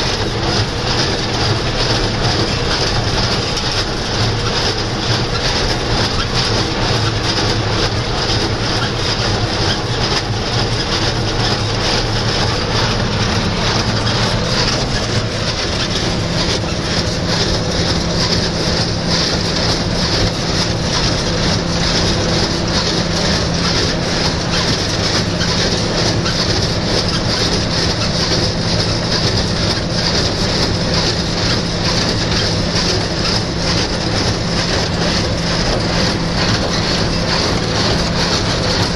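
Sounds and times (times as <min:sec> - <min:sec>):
baler mechanical clatter: 0:00.0 - 0:38.9
tractor diesel engine running: 0:00.0 - 0:38.9.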